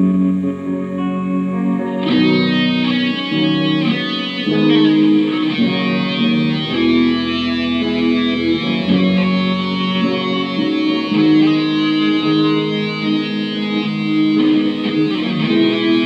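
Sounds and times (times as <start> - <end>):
electric guitar with effects: 0.0 - 16.0.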